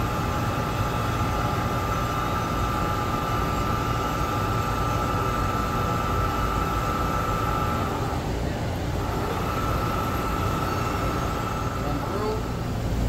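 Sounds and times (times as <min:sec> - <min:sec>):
machine whine over low rumble: 0:00.0 - 0:13.0.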